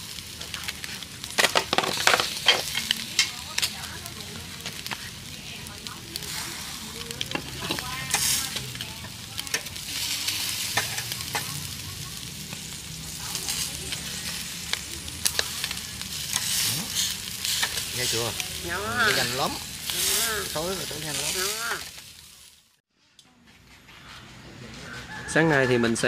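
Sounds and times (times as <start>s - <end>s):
food sizzling in hot fat: 0.0s - 22.8s.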